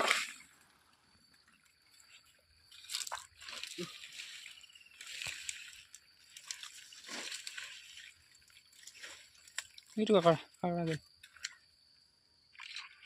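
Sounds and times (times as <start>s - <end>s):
shallow water sloshing and splashing: 0.0s - 10.3s, 12.4s - 13.0s.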